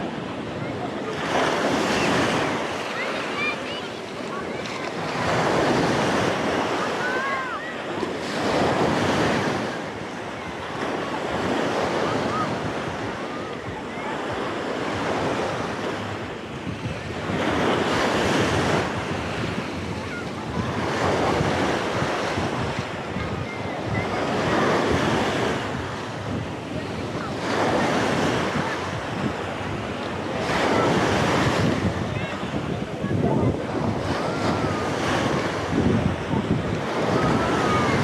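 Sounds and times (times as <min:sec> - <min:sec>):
sea waves breaking on shore: 0:00.0 - 0:38.0
wind buffeting microphone: 0:00.0 - 0:38.0.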